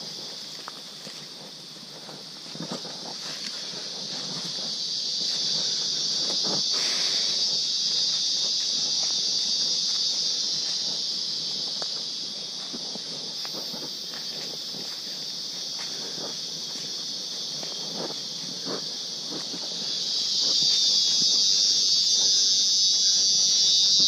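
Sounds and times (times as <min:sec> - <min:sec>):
footsteps on leaf litter: 0:00.0 - 0:24.0
high-pitched insect drone: 0:00.0 - 0:24.0.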